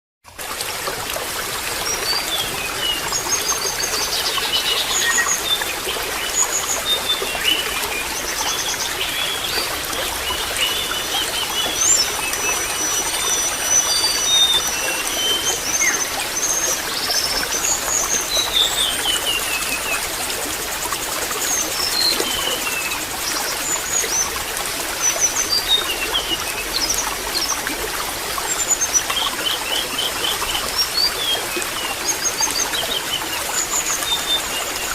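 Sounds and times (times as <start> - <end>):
water trickling: 0.3 - 34.9.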